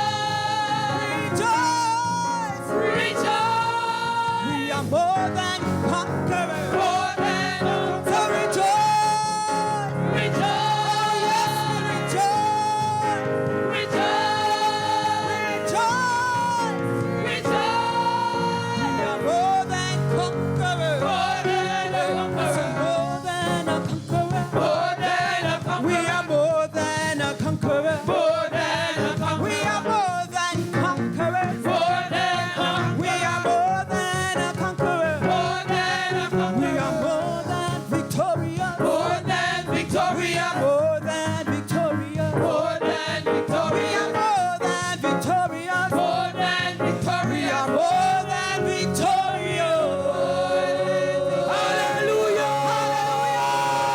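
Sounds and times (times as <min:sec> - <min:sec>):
gospel singing: 0:00.0 - 0:53.9
instrumental backing: 0:00.0 - 0:53.9.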